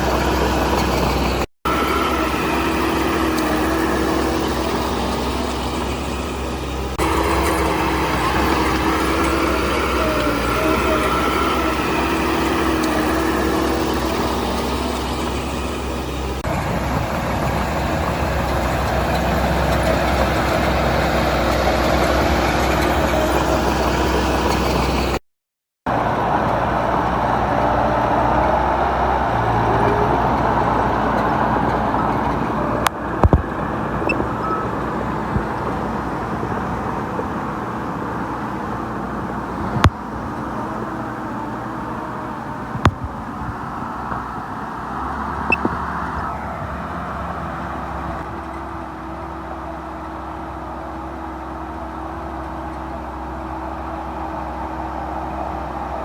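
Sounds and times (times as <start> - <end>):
heavy machinery diesel engines: 0.0 - 25.2, 25.9 - 56.0.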